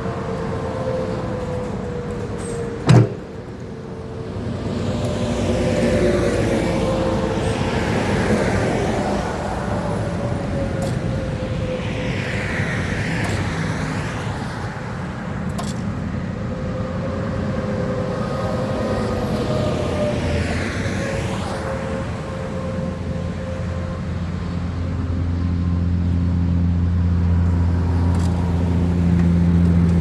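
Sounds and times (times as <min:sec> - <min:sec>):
steady engine hum: 0:00.0 - 0:30.0
vehicles rushing past: 0:00.0 - 0:30.0.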